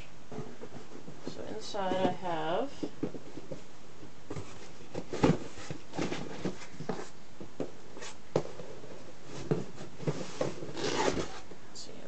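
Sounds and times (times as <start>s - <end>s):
cardboard rustling and scraping: 0.3s - 11.6s.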